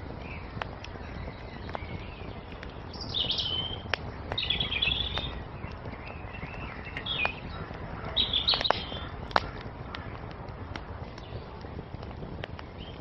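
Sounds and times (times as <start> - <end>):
burning wood popping: 0.0 - 13.0
flames hissing: 0.0 - 13.0
songbirds chirping: 0.0 - 13.0
wood fire crackling: 0.0 - 13.0.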